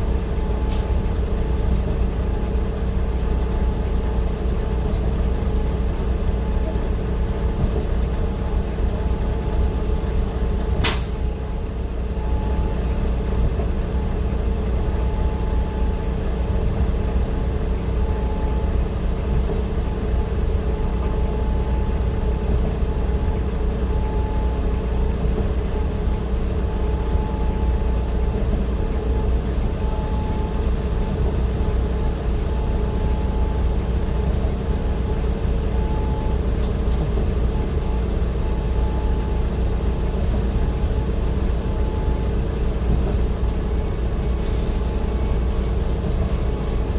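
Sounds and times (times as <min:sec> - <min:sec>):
vehicle engine and road rumble: 0:00.0 - 0:46.9.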